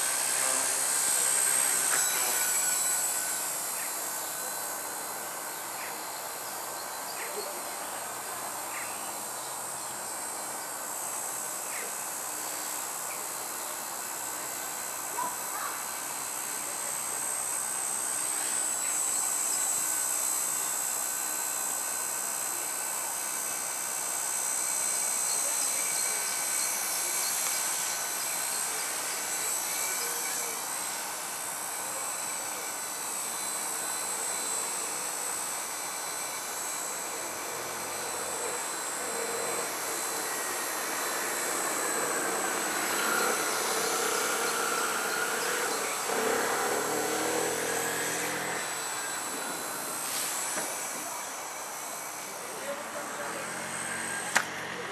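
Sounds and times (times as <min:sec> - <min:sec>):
rc helicopter rotor whine: 0:00.0 - 0:54.9.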